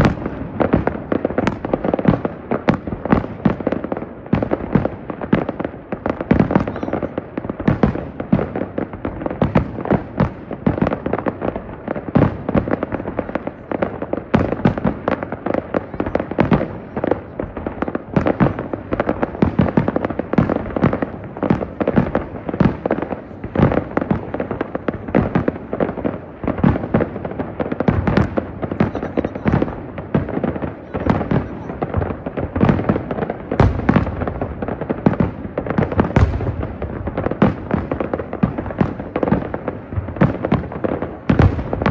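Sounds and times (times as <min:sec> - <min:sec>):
fireworks bursting: 0:00.0 - 0:41.9
fireworks crackling: 0:00.0 - 0:41.9.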